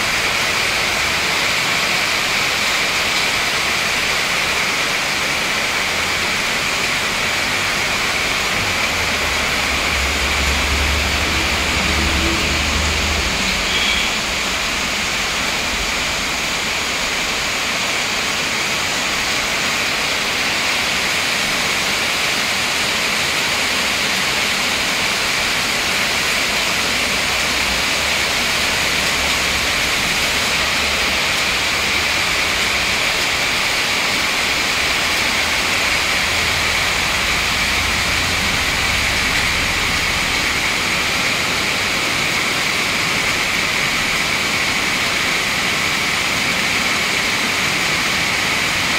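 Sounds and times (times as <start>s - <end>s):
heavy rain on trees and tiles: 0.0s - 48.9s.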